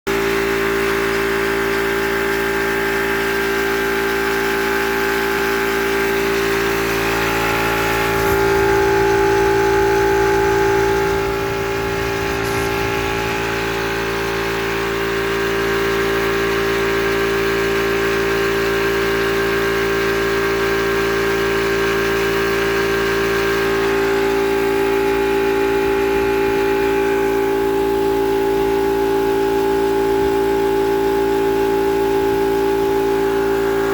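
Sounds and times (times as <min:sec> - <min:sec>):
air compressor humming: 0:00.1 - 0:19.1, 0:20.8 - 0:33.9.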